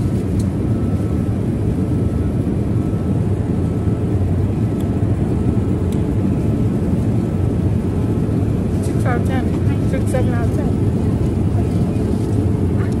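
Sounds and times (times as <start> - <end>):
jet cabin engine drone: 0.0 - 13.0.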